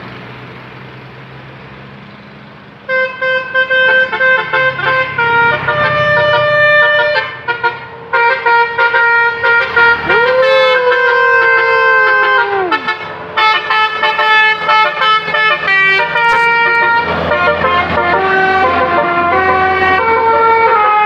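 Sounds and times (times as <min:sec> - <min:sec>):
low engine hum: 0:00.0 - 0:21.0
vehicle air horn melody: 0:02.9 - 0:21.0.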